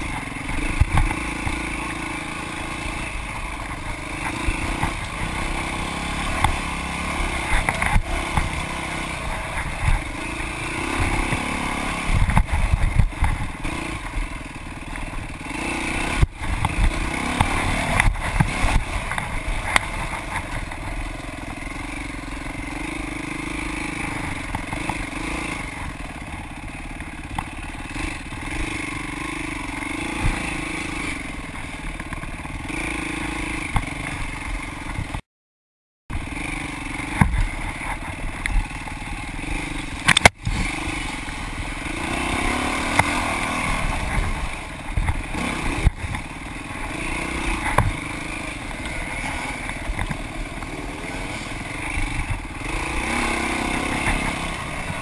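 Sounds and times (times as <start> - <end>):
bike rattling over bumps: 0.0 - 35.2, 36.1 - 55.0
dirt bike engine revving: 0.0 - 35.2, 36.1 - 55.0.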